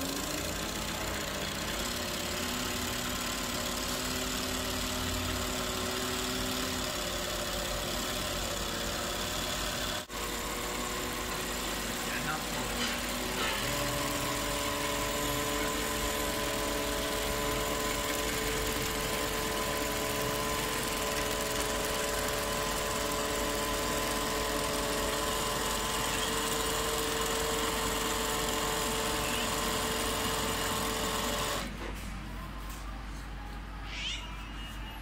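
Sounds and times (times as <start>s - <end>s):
motor hum: 0.0s - 31.8s
sewing machines stitching: 0.0s - 31.8s.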